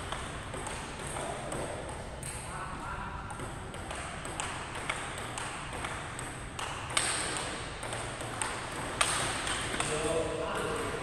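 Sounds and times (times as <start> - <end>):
table tennis ball hits: 0.0 - 2.5, 3.3 - 11.0.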